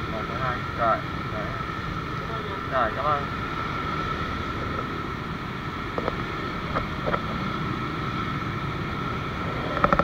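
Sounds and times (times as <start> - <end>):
motorbikes and scooters passing: 0.0 - 10.0
wind rumbling on microphone: 0.0 - 10.0.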